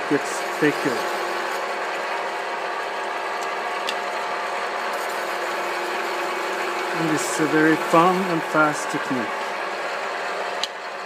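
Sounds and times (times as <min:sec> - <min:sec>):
metal spinning lathe humming: 0:00.0 - 0:11.0.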